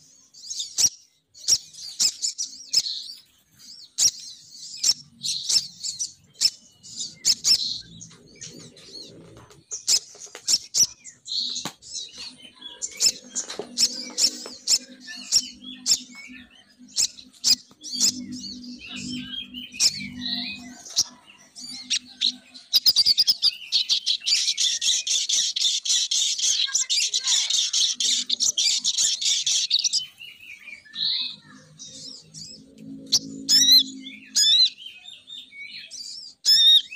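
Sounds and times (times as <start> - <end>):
bird chips and chirps: 0.0 - 36.9.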